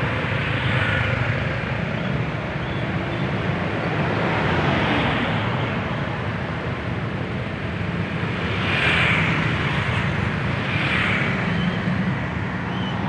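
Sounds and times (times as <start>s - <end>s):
traffic engine rumble: 0.0s - 13.0s
vehicles passing close by: 0.0s - 13.0s.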